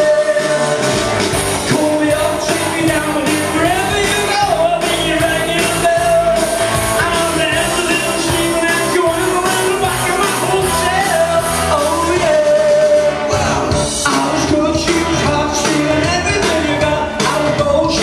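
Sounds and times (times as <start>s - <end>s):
man singing into a microphone: 0.0s - 0.8s, 1.7s - 18.0s
backing music with steady beat: 0.0s - 18.0s.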